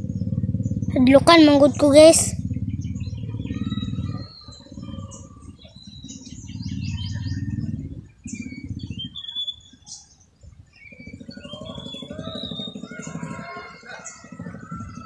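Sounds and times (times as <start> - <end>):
low engine rumble: 0.0 - 15.0
small birds chirping: 0.0 - 15.0.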